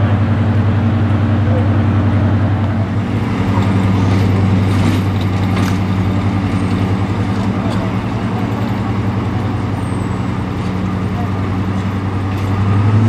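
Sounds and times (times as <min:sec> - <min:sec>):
locomotive diesel engines running: 0:00.0 - 0:13.0.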